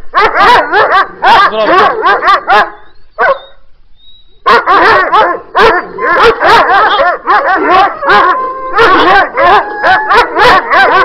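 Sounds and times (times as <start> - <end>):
dogs barking: 0.1 - 3.6, 4.4 - 11.0.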